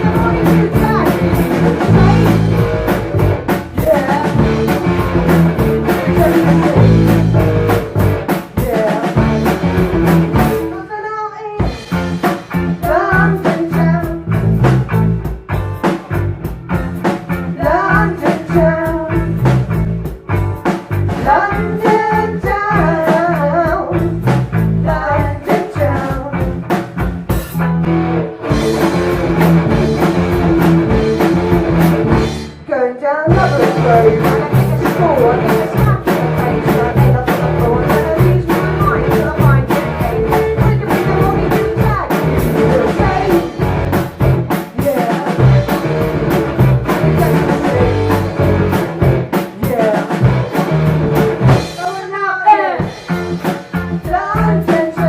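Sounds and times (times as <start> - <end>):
electric guitar lead line: 0.0 - 11.0, 11.6 - 32.7, 33.3 - 55.0
blues-rock band playing: 0.0 - 55.0.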